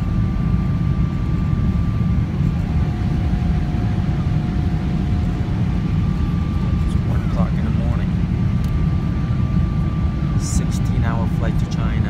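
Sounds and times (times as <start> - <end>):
airliner cabin rumble: 0.0 - 12.0
faint steady whine: 0.0 - 12.0.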